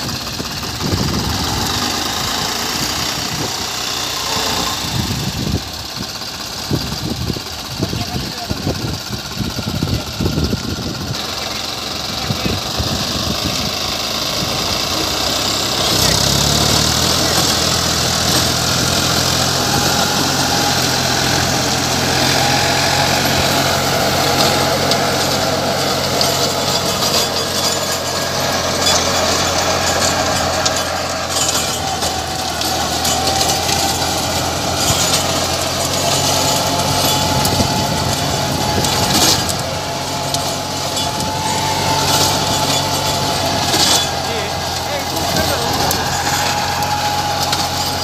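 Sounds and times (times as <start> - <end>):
rotavator churning soil: 0.0 - 48.0
tractor diesel engine under load: 0.0 - 48.0.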